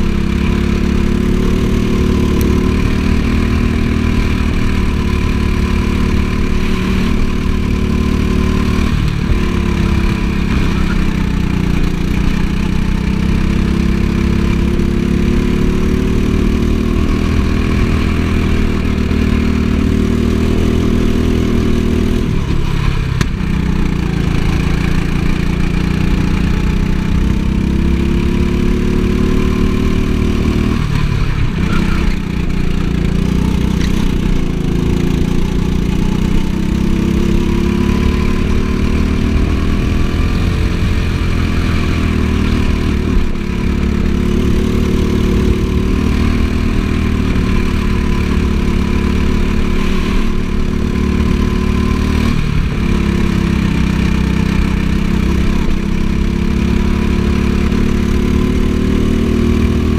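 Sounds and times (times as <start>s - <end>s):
go-kart engine running hard: 0.0s - 59.9s.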